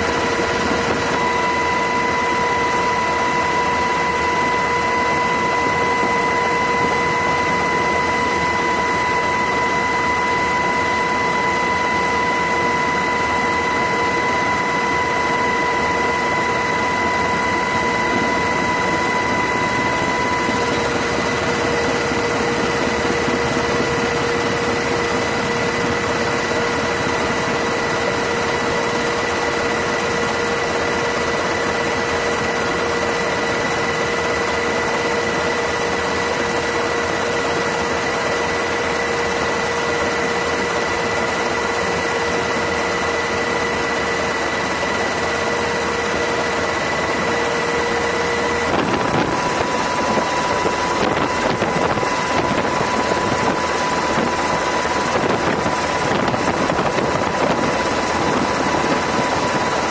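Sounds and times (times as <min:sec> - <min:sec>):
helicopter engine and rotor noise: 0:00.0 - 0:59.9
helicopter engine whine: 0:00.0 - 0:59.9.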